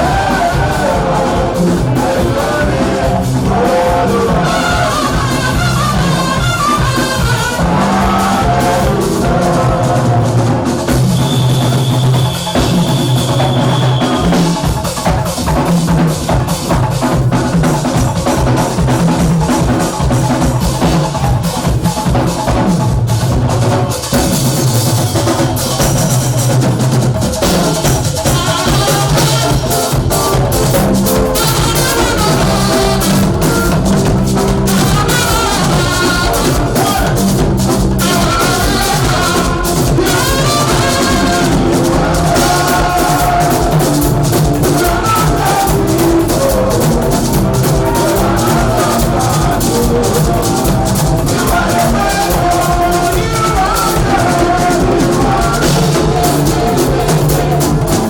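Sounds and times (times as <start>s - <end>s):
bass line: 0.0s - 58.0s
drum kit: 0.0s - 58.0s.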